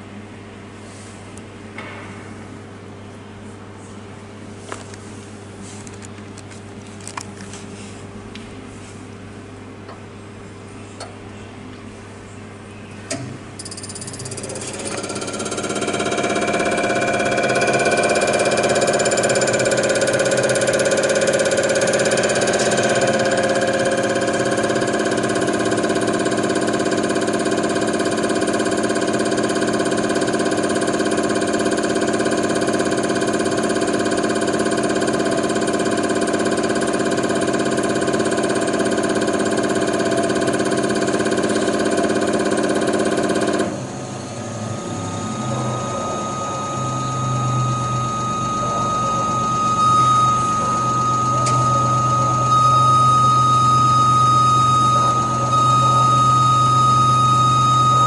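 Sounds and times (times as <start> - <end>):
test bench mechanical hum: 0.0 - 58.0.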